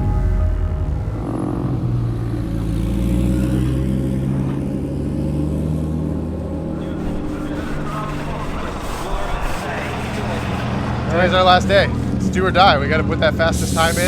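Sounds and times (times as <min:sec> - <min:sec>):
car engine running at speed: 0:00.0 - 0:13.5.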